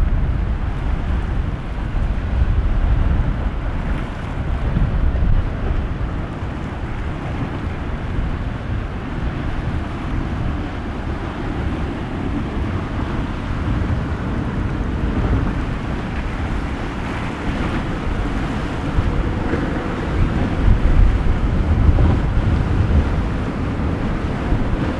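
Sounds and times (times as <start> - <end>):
ocean waves and surf: 0.0 - 24.9
wind rumbling on microphone: 0.0 - 24.9.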